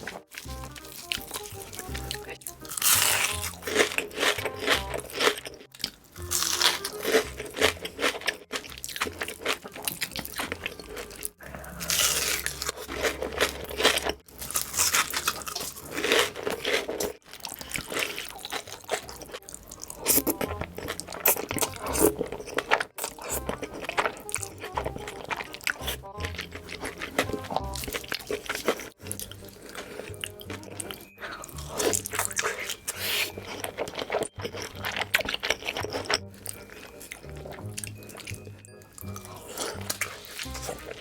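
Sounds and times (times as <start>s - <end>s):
faint background music: 0.0s - 41.0s
slurping noodles: 6.5s - 41.0s.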